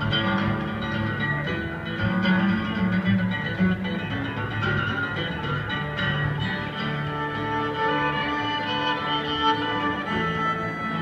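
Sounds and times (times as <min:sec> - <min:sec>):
acoustic guitar: 0:00.0 - 0:11.0
banjo: 0:00.0 - 0:11.0
fiddle: 0:00.0 - 0:11.0
mandolin: 0:00.0 - 0:11.0
upright bass: 0:00.0 - 0:11.0.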